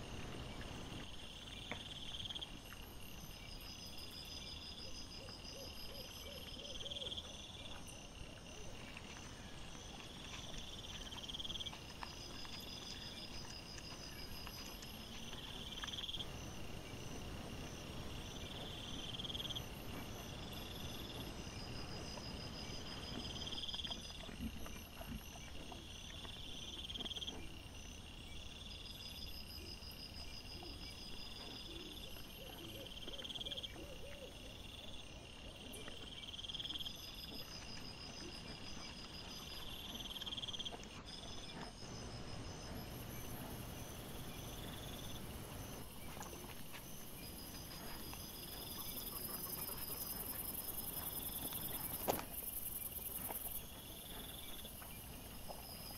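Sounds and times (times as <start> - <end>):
insects trilling chirps: 0.0 - 55.9.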